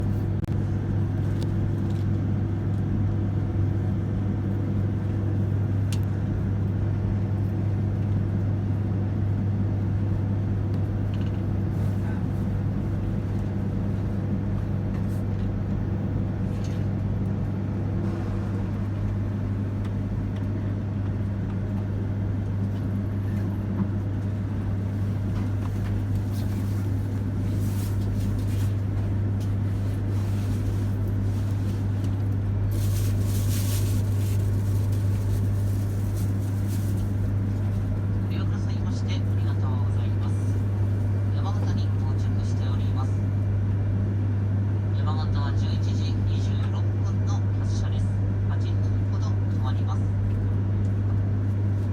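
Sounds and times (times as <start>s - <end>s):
train humming at platform: 0.0s - 51.9s.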